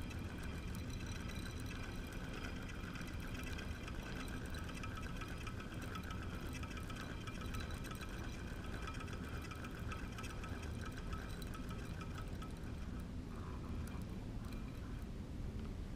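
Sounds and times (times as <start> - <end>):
faint high tinkling tones: 0.0 - 15.1
water: 0.0 - 15.5.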